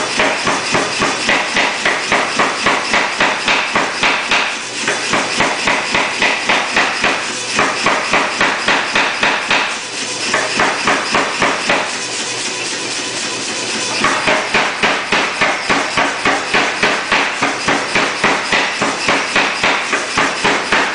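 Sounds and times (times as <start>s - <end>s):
hammer motor humming: 0.0s - 20.9s
power hammer pounding steel: 0.0s - 20.9s.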